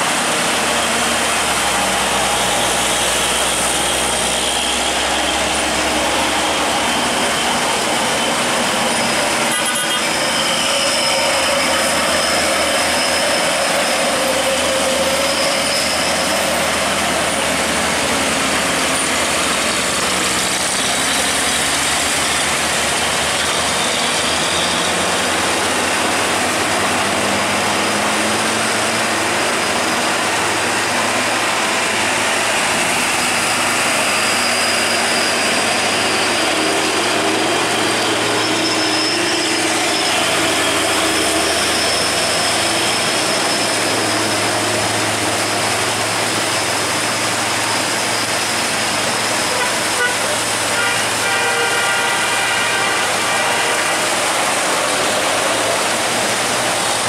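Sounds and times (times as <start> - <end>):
heavy rain hiss: 0.0 - 57.0
heavy truck engines at low revs: 0.0 - 57.0.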